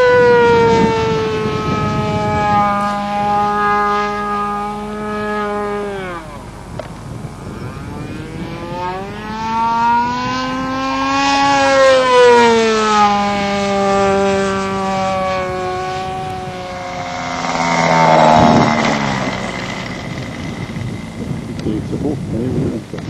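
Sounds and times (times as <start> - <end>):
model airplane engine flying: 0.0 - 23.0.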